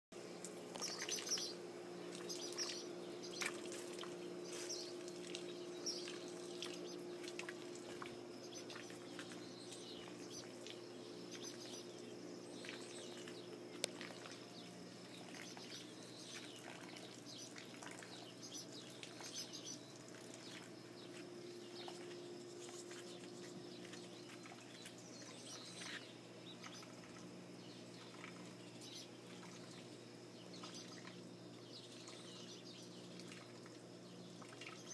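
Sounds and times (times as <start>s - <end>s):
faint small birds chirping: 0.2s - 34.9s
low mechanical hum: 0.2s - 34.9s.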